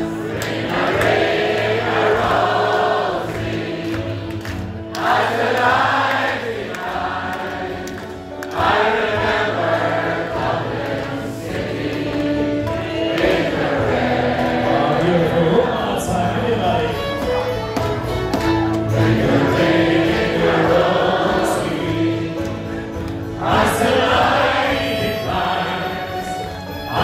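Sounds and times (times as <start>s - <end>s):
crowd singing along: 0.0s - 16.6s, 18.8s - 27.0s
acoustic guitars: 0.0s - 27.0s
banjo: 0.0s - 27.0s.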